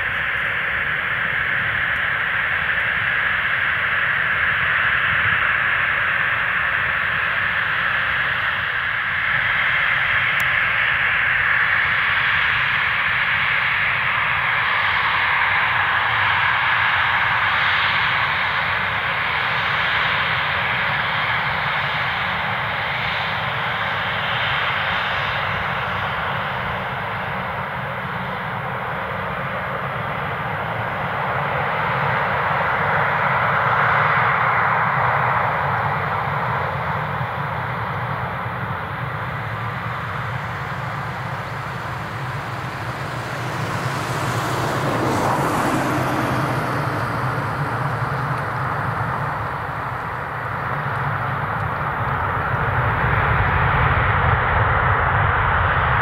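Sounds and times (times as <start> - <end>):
jet engines taxiing: 0.0 - 56.0.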